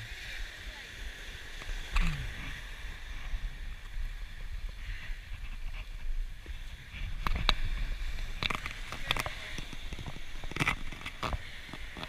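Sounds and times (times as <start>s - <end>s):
waves washing up gravel beach: 0.0s - 12.0s
wind buffeting microphone: 0.0s - 12.0s.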